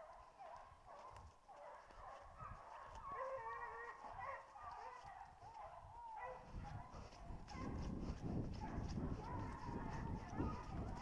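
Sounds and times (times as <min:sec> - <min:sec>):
hounds baying faintly: 0:00.0 - 0:11.0.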